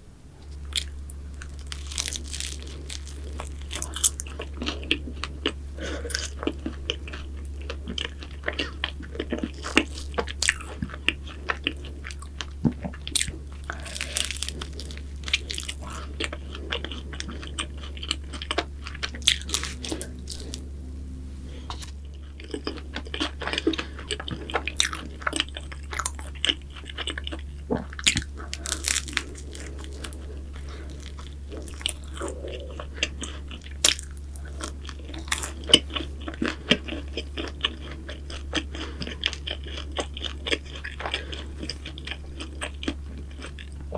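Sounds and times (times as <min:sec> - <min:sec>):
steady low hum: 0:00.0 - 0:43.9
crunchy pastry chewing: 0:00.5 - 0:20.7, 0:21.5 - 0:43.9.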